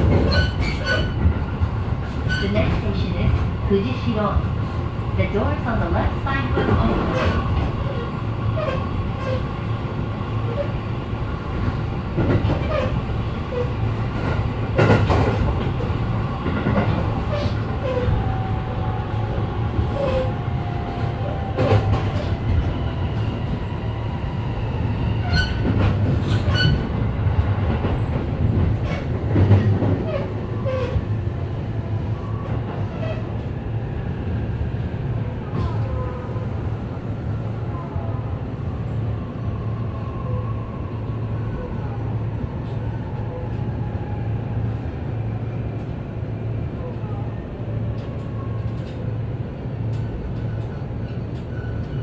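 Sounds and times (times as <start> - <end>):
train wheels and motors rumbling: 0.0 - 52.0.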